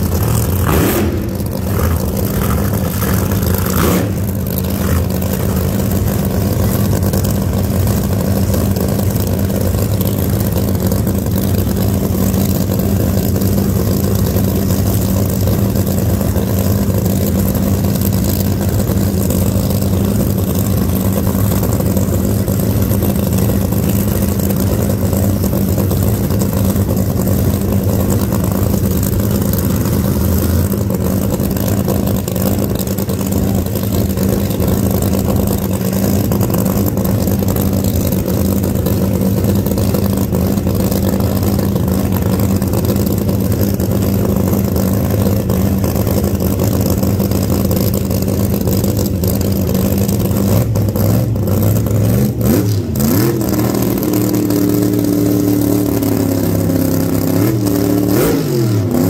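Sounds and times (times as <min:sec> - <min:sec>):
racing car engine idling loudly: 0:00.0 - 0:59.0.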